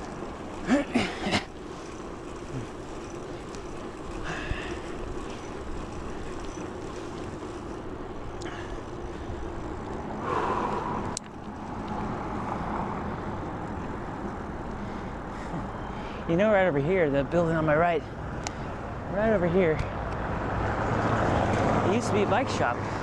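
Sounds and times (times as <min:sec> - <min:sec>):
road and wind noise: 0:00.0 - 0:23.0
vehicle passing: 0:00.0 - 0:23.0.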